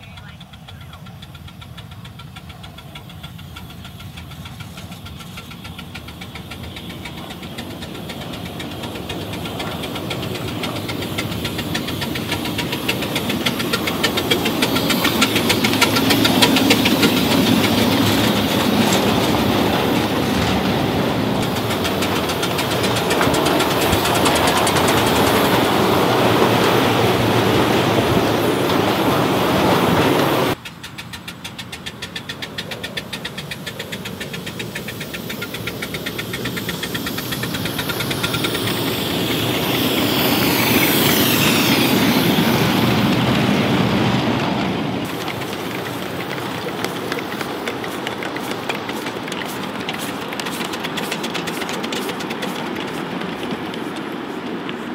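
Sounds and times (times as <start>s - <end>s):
steam locomotive exhaust beats: 0.0s - 54.9s
wheel clatter: 0.0s - 54.9s.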